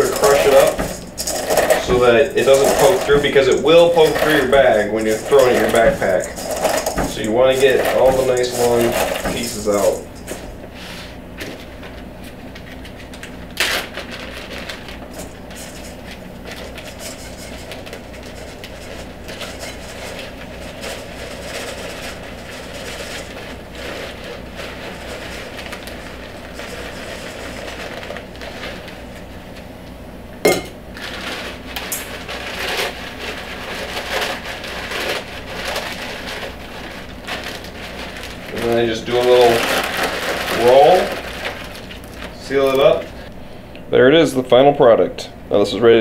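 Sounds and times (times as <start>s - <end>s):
dry spaghetti crunching in a bowl: 0.0s - 11.0s, 12.7s - 29.7s, 30.9s - 43.2s
steady low hum: 0.0s - 46.0s.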